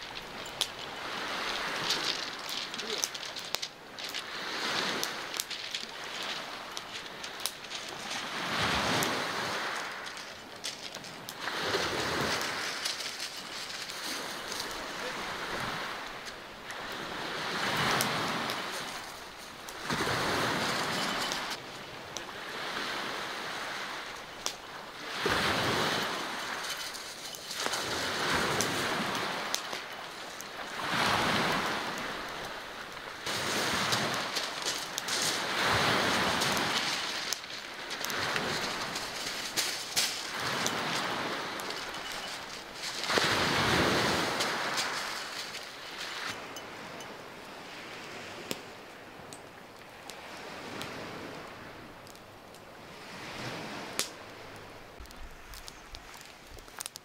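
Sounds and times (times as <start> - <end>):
small waves breaking on pebbles: 0.0 - 57.0.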